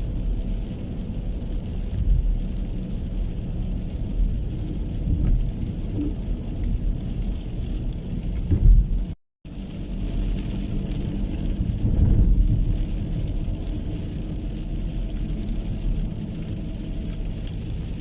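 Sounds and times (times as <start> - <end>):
rain with low rumble: 0.0 - 18.0.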